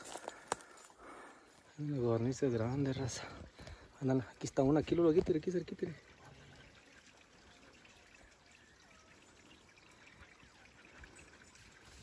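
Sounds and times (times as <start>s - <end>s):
faint trickle of running water: 1.5s - 12.0s.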